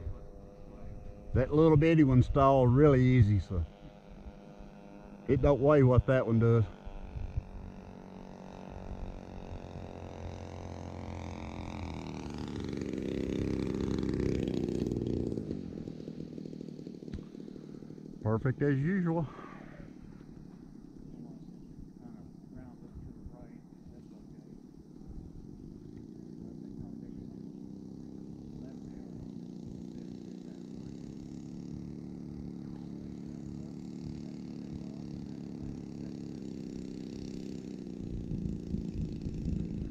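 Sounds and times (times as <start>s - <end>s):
model plane two-stroke engine: 0.0s - 39.9s.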